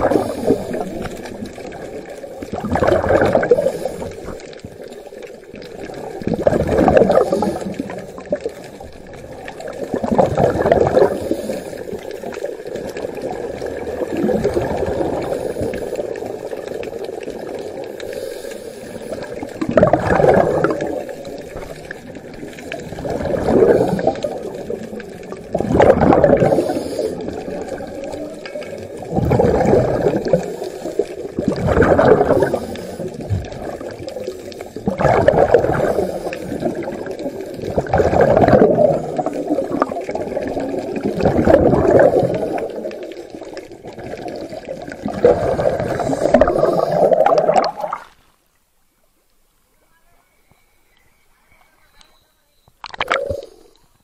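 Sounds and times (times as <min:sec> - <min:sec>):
exhaled bubbles gurgling underwater: 0:00.0 - 0:48.3, 0:52.8 - 0:54.0.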